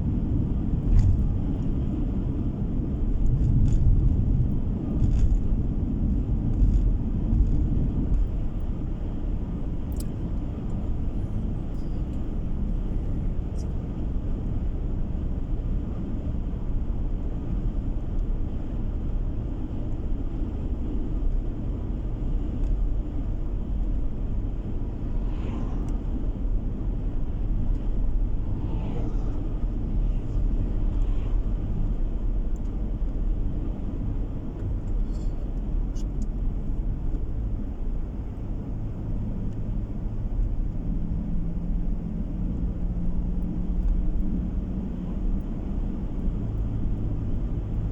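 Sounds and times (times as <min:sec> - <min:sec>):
engine and tyre rumble: 0:00.0 - 0:47.9
low engine hum: 0:00.0 - 0:47.9.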